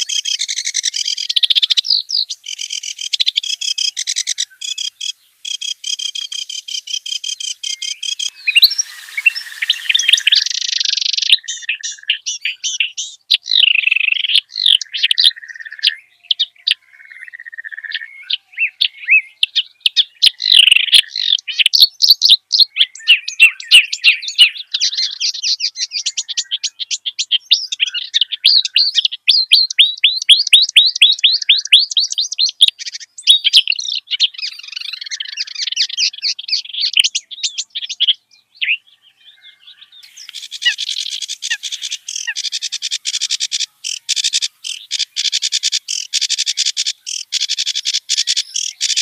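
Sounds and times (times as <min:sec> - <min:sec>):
bird singing chattering song: 0:00.0 - 0:49.0.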